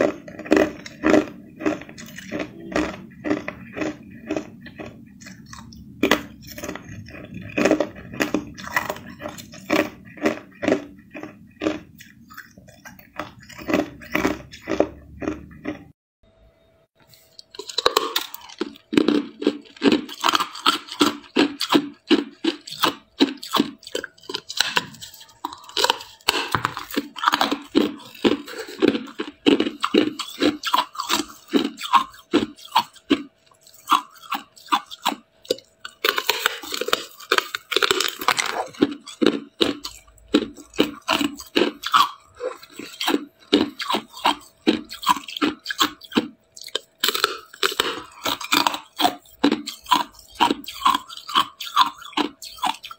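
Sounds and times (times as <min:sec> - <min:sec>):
teeth crunching ice: 0:00.0 - 0:16.0, 0:17.1 - 0:52.9.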